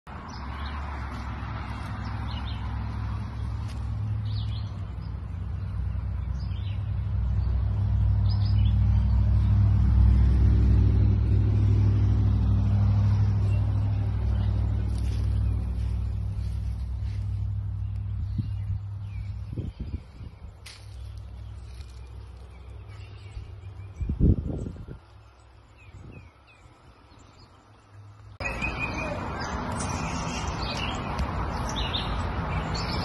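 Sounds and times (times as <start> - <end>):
birds chirping: 0.1 - 33.0
vehicle engine humming: 0.1 - 33.0.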